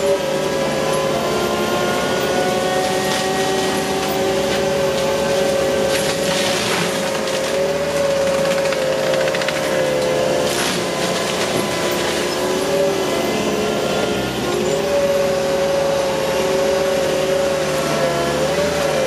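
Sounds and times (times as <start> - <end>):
wood crackling in mulcher: 0.0 - 19.0.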